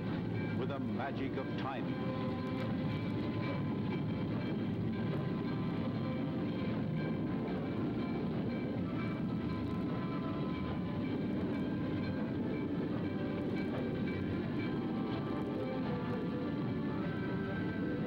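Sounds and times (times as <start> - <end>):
train cars rumbling on rails: 0.0 - 18.0.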